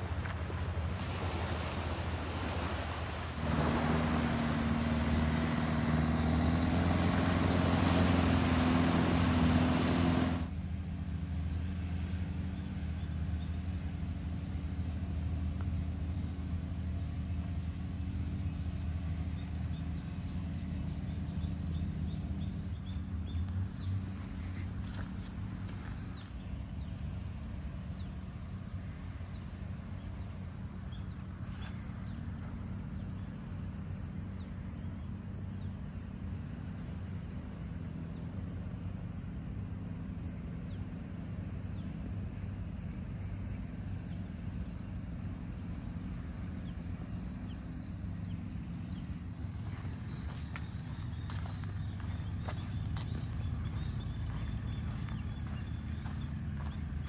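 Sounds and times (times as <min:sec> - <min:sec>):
insects droning: 0:00.0 - 0:57.0
low engine hum: 0:00.0 - 0:57.0.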